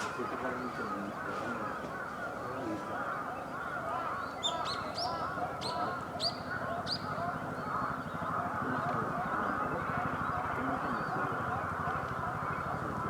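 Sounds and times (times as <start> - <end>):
many lower bird calls: 0.0 - 13.0.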